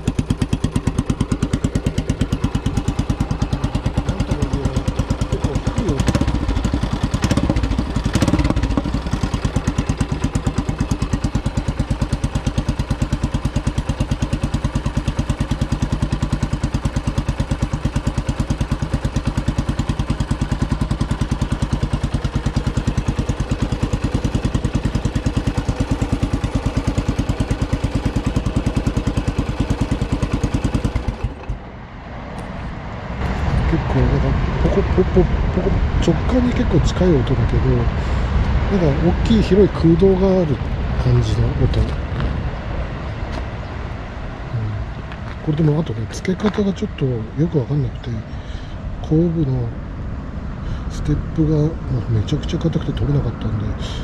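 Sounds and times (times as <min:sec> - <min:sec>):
motorcycle engine idling: 0:00.0 - 0:31.8, 0:33.2 - 0:50.0.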